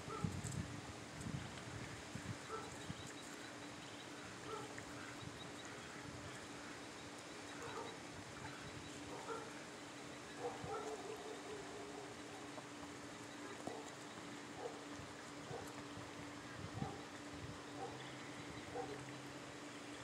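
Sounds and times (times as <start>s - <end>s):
ducks calling softly: 2.4s - 20.0s.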